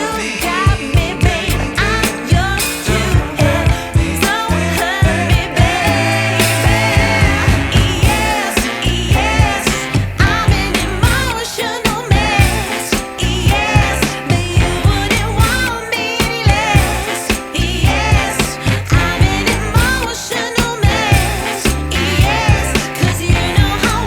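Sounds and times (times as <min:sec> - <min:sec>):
pop dance song: 0:00.0 - 0:24.0
heavy fast bass beat: 0:00.7 - 0:11.4, 0:12.1 - 0:20.2, 0:20.8 - 0:24.0.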